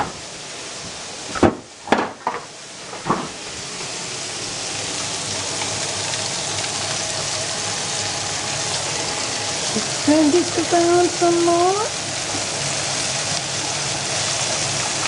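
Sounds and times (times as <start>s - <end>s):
food sizzling in a frying pan: 2.6s - 15.0s.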